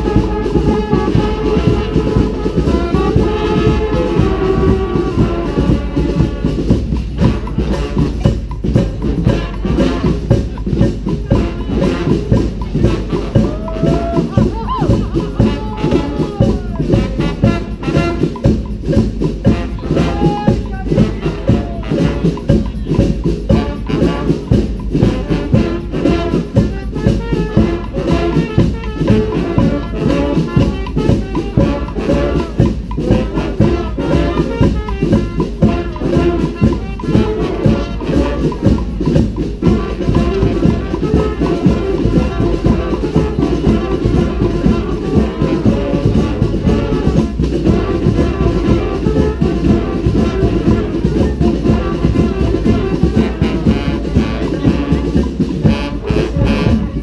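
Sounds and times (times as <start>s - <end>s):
brass band playing dance music: 0.0s - 57.0s
drums dance beat: 0.0s - 57.0s
trumpets and horns melody: 0.0s - 57.0s.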